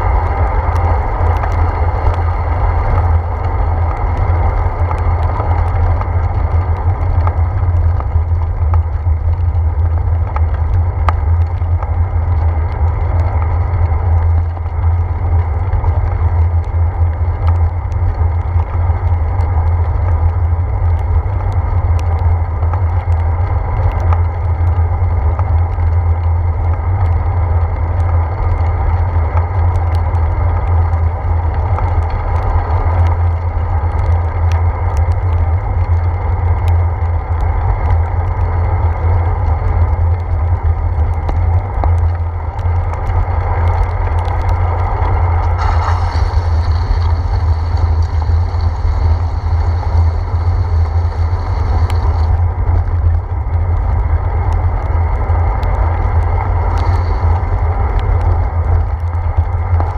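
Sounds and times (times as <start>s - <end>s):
bicycle road noise on wet pavement: 0.0s - 59.9s
light ticks: 0.0s - 59.9s
low wind rumble: 0.0s - 59.9s.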